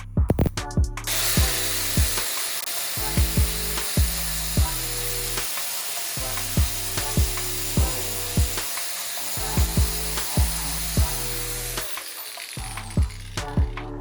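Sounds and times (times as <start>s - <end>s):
electronic music with drum beat: 0.0s - 14.0s
power tool grinding: 1.1s - 14.0s.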